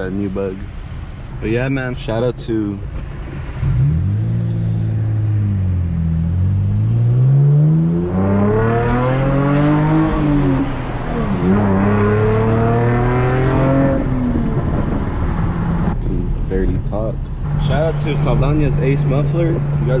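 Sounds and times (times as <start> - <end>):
car exhaust accelerating: 2.7 - 20.0.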